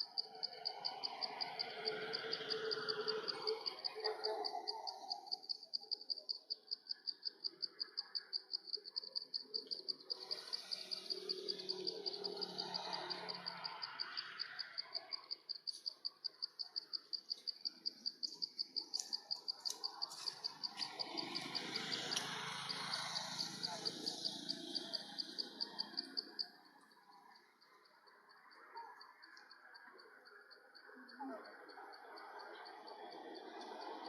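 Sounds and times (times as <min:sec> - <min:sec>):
insect chirping: 0:00.0 - 0:34.0.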